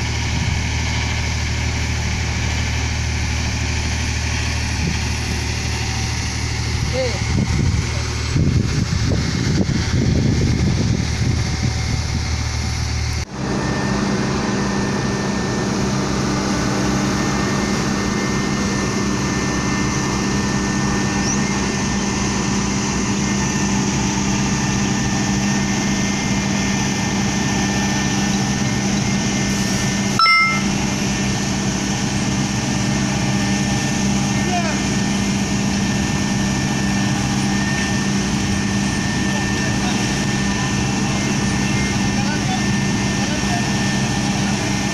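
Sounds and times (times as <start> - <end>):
heavy machinery engine running: 0.0 - 44.9.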